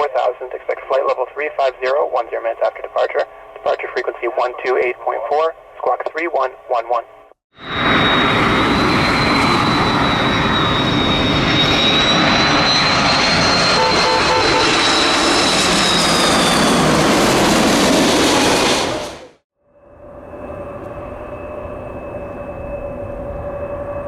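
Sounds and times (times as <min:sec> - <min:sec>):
jet engines rumbling and whining: 0:00.0 - 0:24.0.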